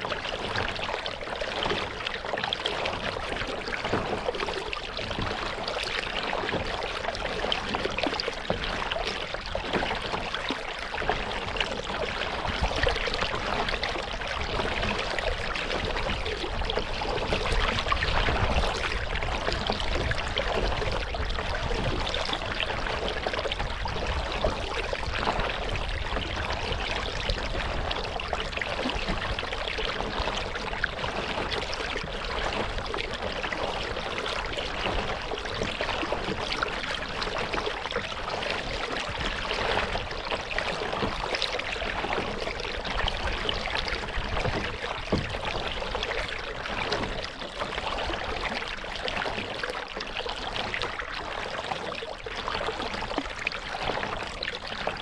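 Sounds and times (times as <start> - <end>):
water splashing around a kayak: 0.0 - 55.0.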